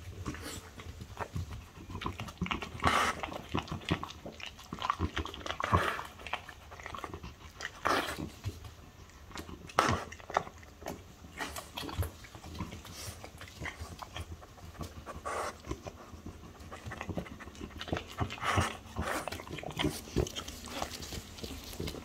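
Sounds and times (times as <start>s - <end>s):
dog chewing and biting: 0.0s - 22.0s.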